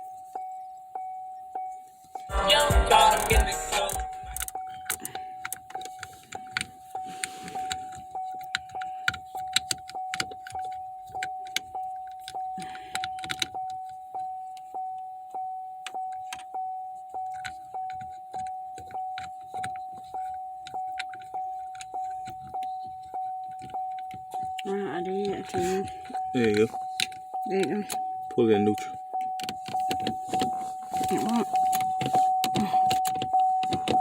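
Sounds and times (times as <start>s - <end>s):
car warning chime dinging: 0.0s - 34.0s.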